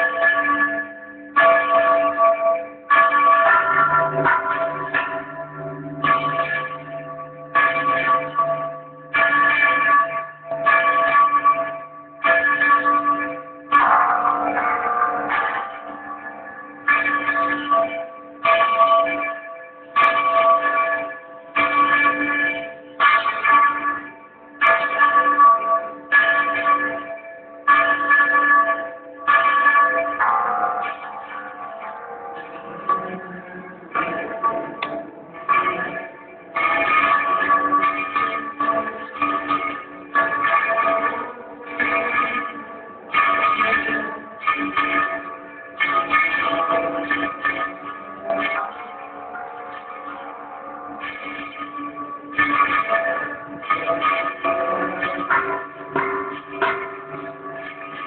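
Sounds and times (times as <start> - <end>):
church bell ringing: 0.0 - 58.0.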